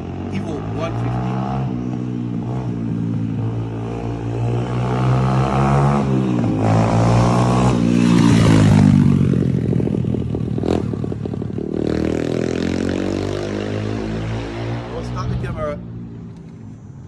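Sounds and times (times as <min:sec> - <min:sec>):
dirt bike engine revving: 0:00.0 - 0:15.8.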